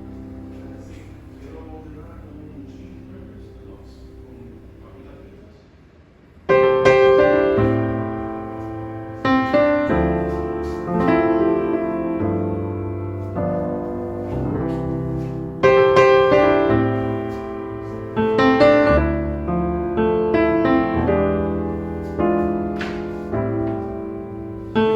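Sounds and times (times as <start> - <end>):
slow piano chords: 0.0 - 5.5, 6.5 - 24.9.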